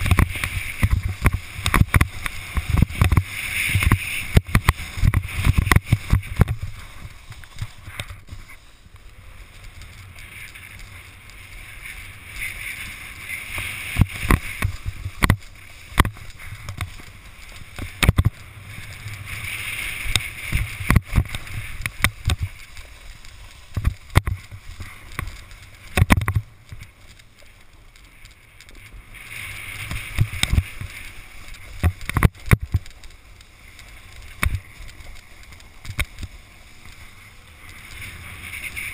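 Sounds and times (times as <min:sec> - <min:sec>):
snowboard edge scraping snow: 0:00.0 - 0:27.1, 0:28.8 - 0:33.0, 0:33.6 - 0:38.9
wind rumble on microphone: 0:00.0 - 0:38.9.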